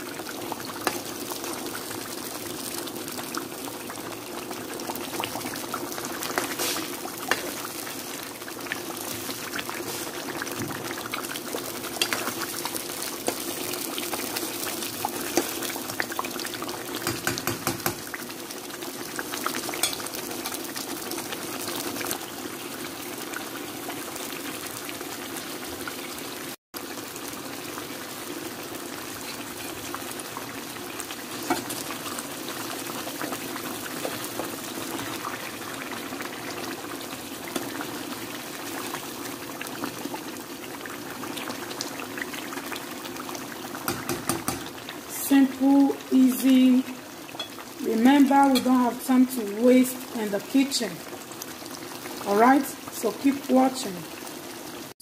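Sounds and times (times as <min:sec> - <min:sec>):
stew bubbling in a pan: 0:00.0 - 0:55.0.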